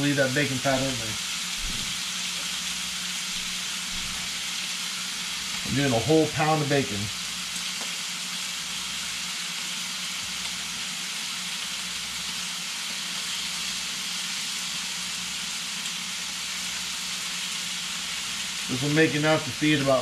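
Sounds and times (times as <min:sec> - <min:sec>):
bacon sizzling: 0:00.0 - 0:20.0.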